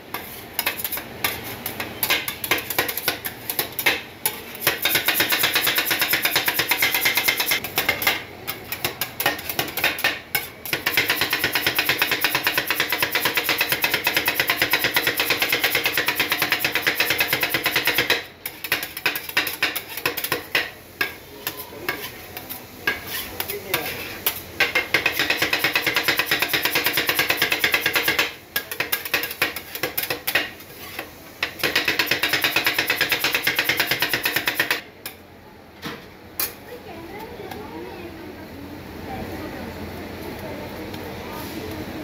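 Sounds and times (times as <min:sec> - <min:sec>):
metal spatulas chopping on metal: 0:00.1 - 0:35.2.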